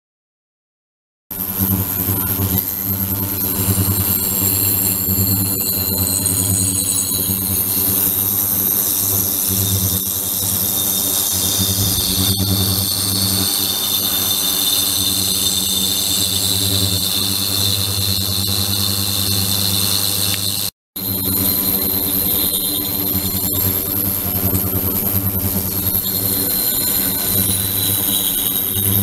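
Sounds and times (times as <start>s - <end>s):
high-pitched whine: 1.3s - 29.0s
ultrasonic tank buzzing hum: 1.3s - 29.0s.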